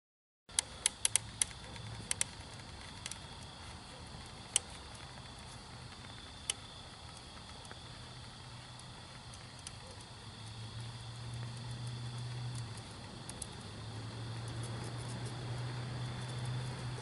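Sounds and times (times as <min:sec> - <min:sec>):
molten metal crackling and popping: 0:00.5 - 0:17.0
high insect trill: 0:00.6 - 0:17.0.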